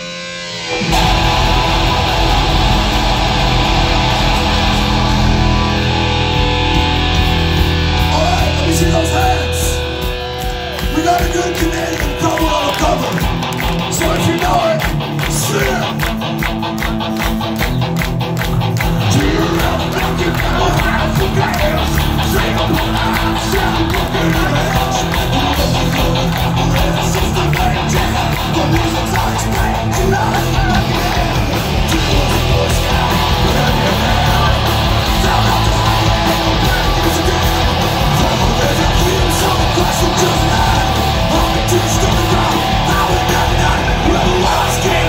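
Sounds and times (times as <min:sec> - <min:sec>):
heavy metal band playing live: 0:00.0 - 0:45.0
drums fast steady beat: 0:00.8 - 0:45.0.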